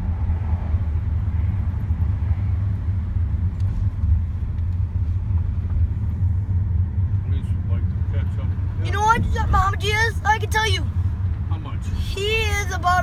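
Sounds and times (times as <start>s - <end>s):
car low rumble: 0.0s - 13.0s.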